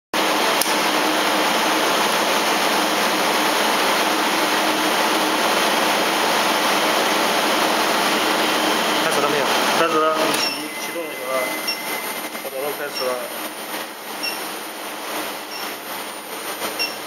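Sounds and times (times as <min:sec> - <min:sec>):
machinery rushing noise: 0:00.2 - 0:17.0.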